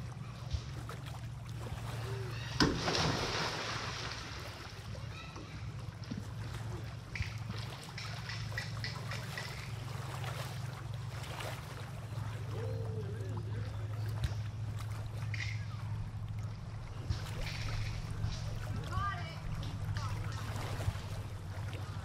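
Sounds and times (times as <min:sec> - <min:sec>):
faint distant calls: 0:00.0 - 0:22.0
small waves lapping: 0:00.0 - 0:22.0
steady low hum: 0:00.0 - 0:22.0.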